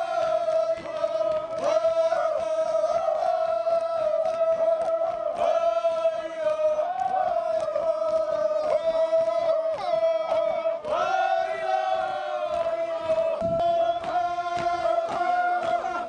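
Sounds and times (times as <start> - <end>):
group chanting held note: 0.0 - 16.0
irregular knocking beats: 0.1 - 16.0.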